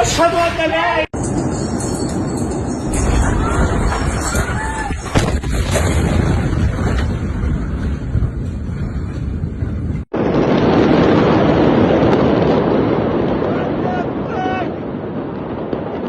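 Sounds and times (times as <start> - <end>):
wind on microphone: 1.2 - 16.0.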